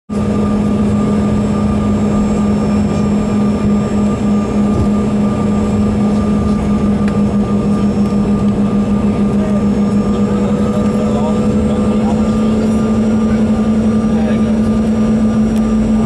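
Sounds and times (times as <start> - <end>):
jet engines droning: 0.1 - 16.0.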